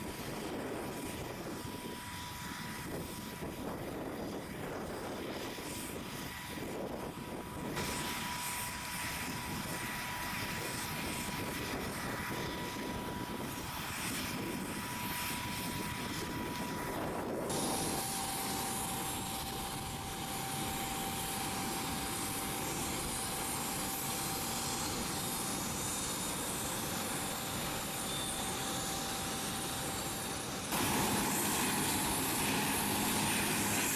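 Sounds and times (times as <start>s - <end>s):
jet engine rushing and whining: 0.0s - 33.9s.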